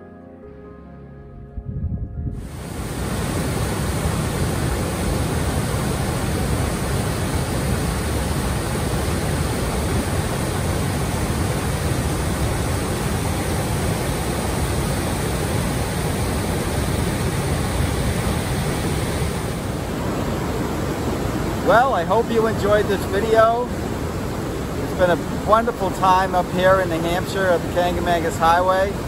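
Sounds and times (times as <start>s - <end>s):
river rushing over rocks: 2.5s - 29.0s.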